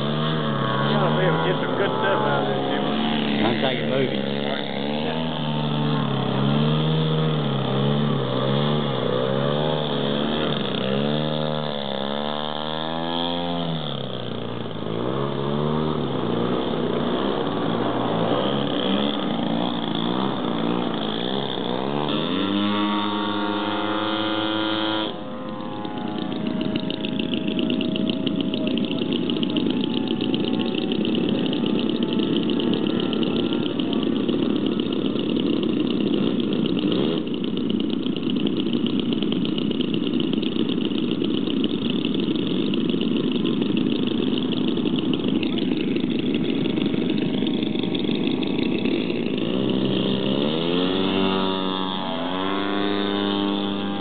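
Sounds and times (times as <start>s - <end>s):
model airplane engines running: 0.0s - 54.0s.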